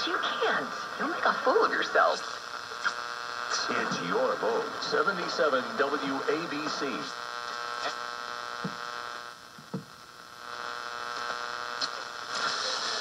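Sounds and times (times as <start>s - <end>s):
radio buzzing hum: 0.0s - 13.0s
radio hiss: 0.0s - 13.0s.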